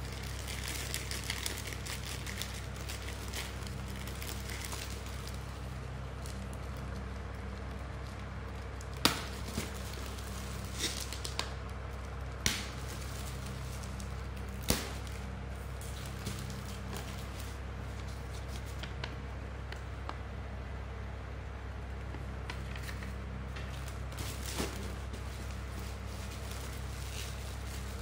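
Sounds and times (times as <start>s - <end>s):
plastic wrap crinkling: 0.0s - 19.2s, 22.5s - 28.0s.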